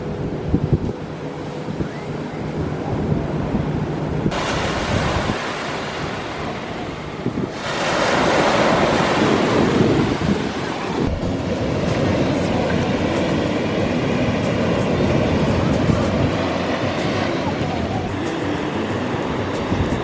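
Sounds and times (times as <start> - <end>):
ocean surf washing on beach: 0.0 - 20.0
wind rumbling on microphone: 0.0 - 20.0.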